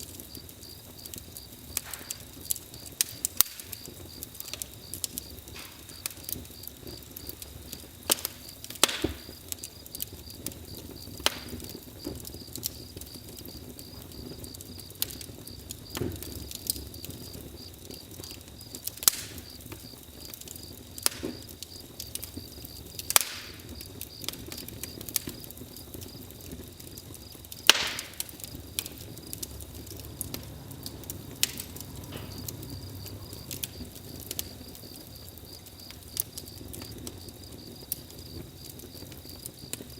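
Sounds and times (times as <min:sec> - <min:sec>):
insects chirping: 0:00.0 - 0:39.9
wood fire crackling and popping: 0:00.0 - 0:39.9.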